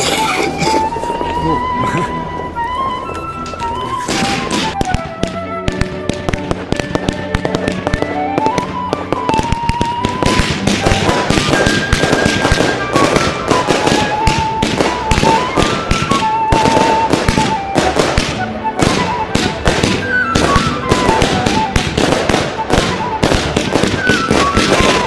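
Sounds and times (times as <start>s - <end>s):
fireworks banging and crackling: 0.0s - 1.4s, 2.6s - 25.0s
background music: 0.0s - 25.0s.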